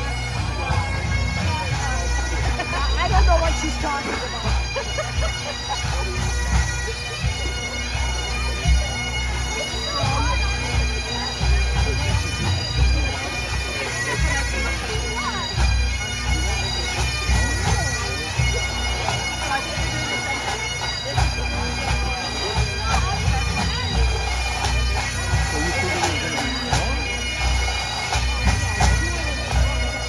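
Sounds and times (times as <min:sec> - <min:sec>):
massed bagpipes playing: 0:00.0 - 0:30.0.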